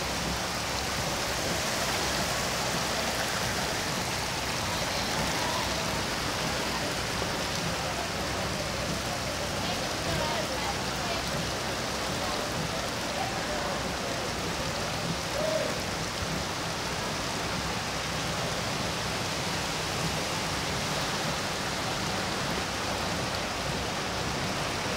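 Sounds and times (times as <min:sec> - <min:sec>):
rain falling on water: 0:00.0 - 0:24.9.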